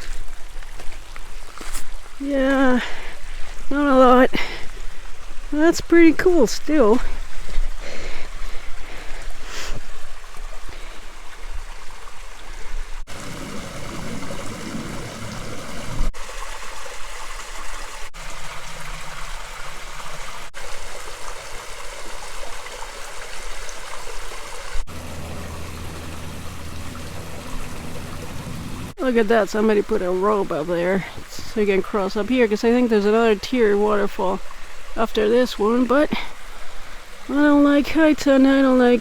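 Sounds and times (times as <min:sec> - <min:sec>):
small waterfall splashing: 0:00.0 - 0:39.0.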